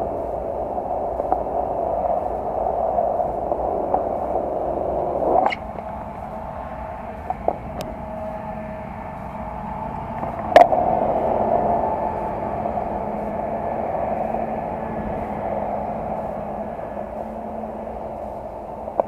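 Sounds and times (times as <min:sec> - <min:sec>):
skateboard wheels rolling: 0:00.0 - 0:19.0.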